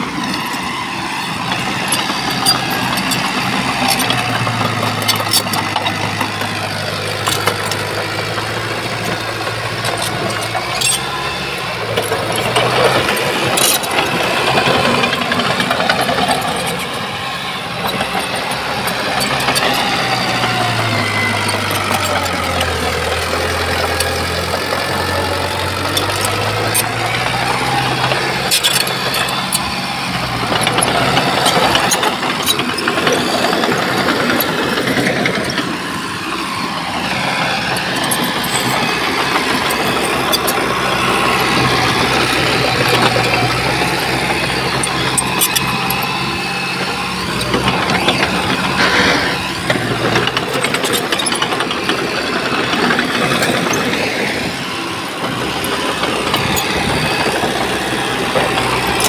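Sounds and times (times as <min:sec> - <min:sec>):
heavy machinery diesel engine: 0:00.0 - 0:59.0
sharp clicks and clanks: 0:01.4 - 0:59.0.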